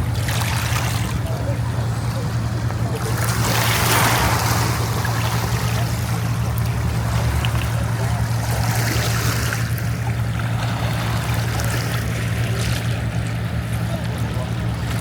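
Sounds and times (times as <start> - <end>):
boat engine running: 0.0 - 15.0
water rushing and splashing: 0.0 - 15.0.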